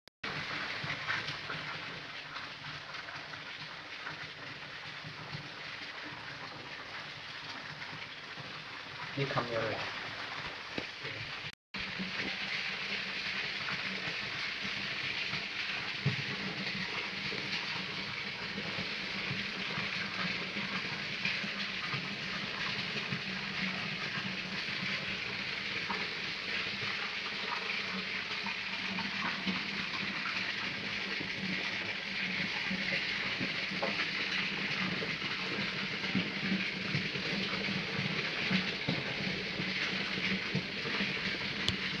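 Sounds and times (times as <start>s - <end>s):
trickling water: 0.2s - 42.0s.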